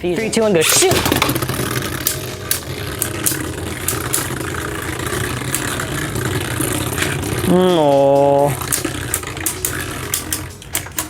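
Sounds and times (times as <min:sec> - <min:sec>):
spinning tops whirring: 0:00.0 - 0:11.0
spinning tops clicking as they collide: 0:00.6 - 0:11.0.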